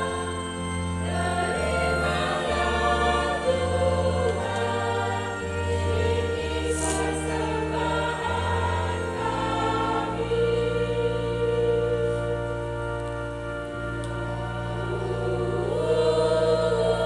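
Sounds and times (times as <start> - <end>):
choir singing a hymn: 0.0 - 17.0
organ accompaniment: 0.0 - 17.0.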